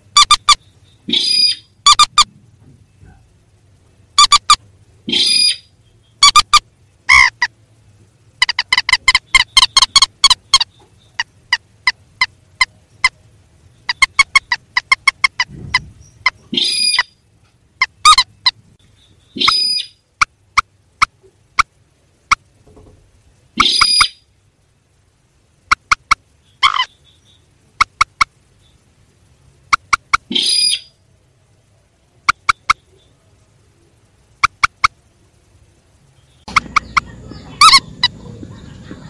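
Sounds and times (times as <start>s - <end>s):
harsh longer bird calls: 0.0s - 3.5s, 4.1s - 22.6s, 23.4s - 24.4s, 25.5s - 35.1s, 36.0s - 39.0s
recorded rail bird calls: 0.0s - 39.0s.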